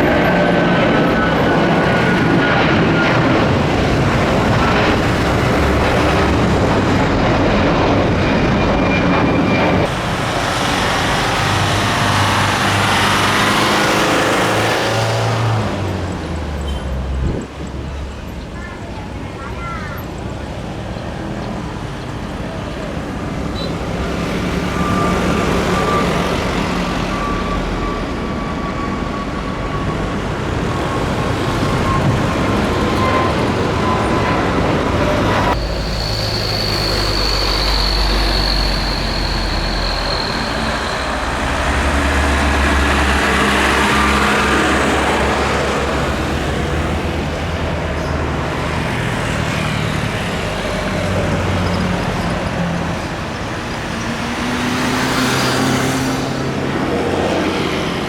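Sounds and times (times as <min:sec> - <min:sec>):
jet engines roaring with whine: 0:00.0 - 0:58.0.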